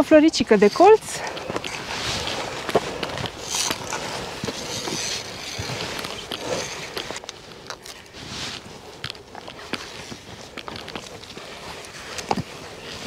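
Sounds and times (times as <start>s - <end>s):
small clicks and scrapes: 0.3s - 13.0s
footsteps crunching on gravel: 0.4s - 13.0s.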